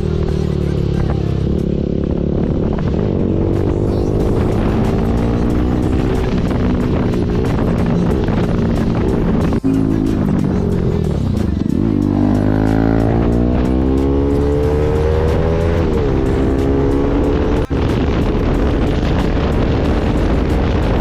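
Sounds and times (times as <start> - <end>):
motorcycle engine accelerating: 0.0 - 21.0
music: 0.0 - 21.0.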